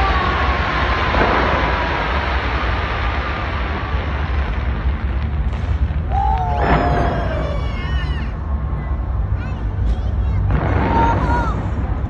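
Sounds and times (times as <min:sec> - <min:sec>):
fireworks bursting and crackling: 0:00.0 - 0:12.0
heavy low boom: 0:00.0 - 0:12.0.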